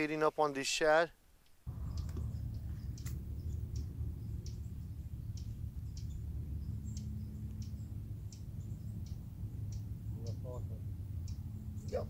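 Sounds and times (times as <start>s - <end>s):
low outdoor rumble: 1.7s - 12.0s
small birds chirping: 1.7s - 12.0s.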